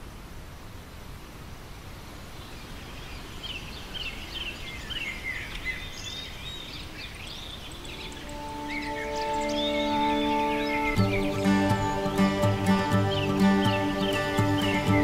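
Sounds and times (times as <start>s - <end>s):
small birds chirping: 2.3s - 15.0s.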